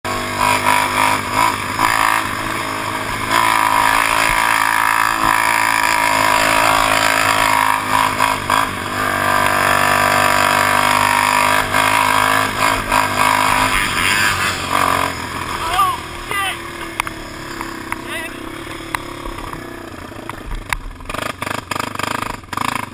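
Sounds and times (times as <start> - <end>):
quad engine running hard: 0.1 - 22.9.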